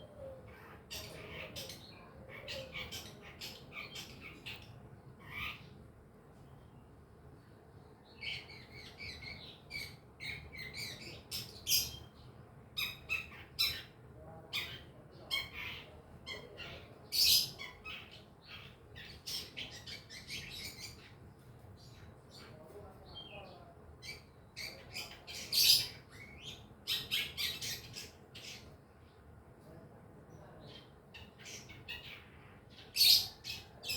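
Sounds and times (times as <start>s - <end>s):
bird chirping and chattering: 0.0s - 5.8s, 8.2s - 21.2s, 21.8s - 28.8s, 30.7s - 33.9s.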